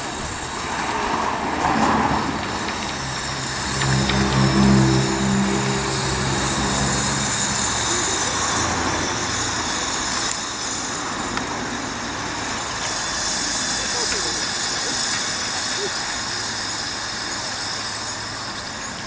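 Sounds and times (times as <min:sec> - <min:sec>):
low hum: 0:00.0 - 0:18.9
steam hissing: 0:00.0 - 0:19.0
train wheels on rails: 0:00.0 - 0:19.0.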